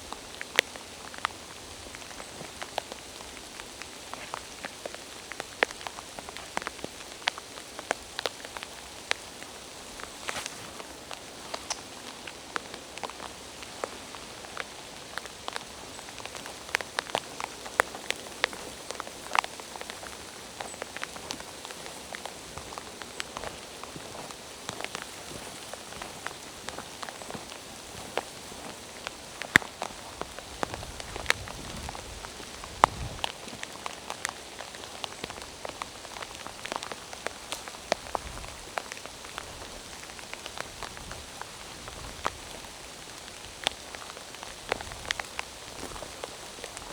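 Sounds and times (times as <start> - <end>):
rain falling through forest: 0.0 - 46.9
raindrops tapping surfaces: 0.0 - 46.9.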